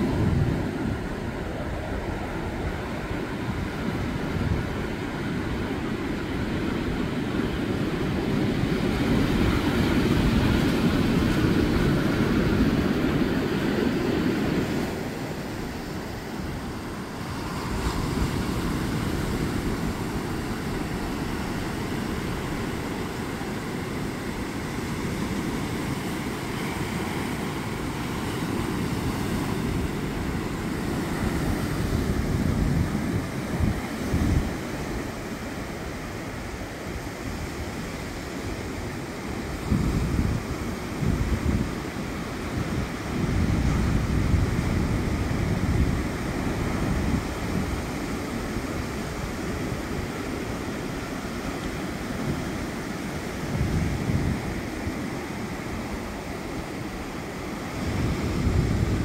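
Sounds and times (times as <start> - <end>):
ocean surf breaking on beach: 0.0 - 59.0
wind rumbling on microphone: 0.0 - 59.0.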